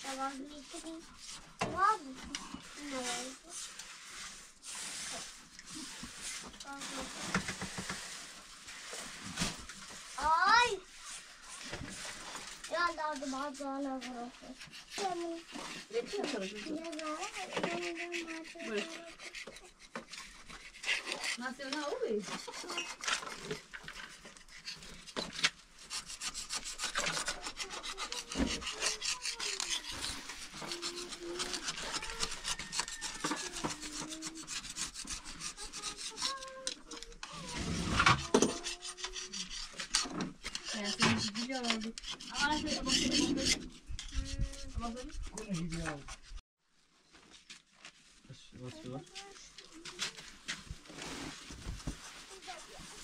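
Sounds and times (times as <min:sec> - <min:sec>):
hand scraping and rubbing: 0:00.0 - 0:46.4, 0:47.1 - 0:53.0.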